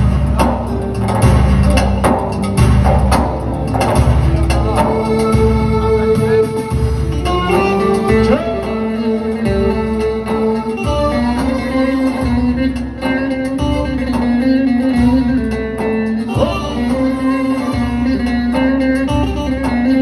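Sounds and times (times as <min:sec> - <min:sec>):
long-necked lute playing: 0:00.0 - 0:20.0.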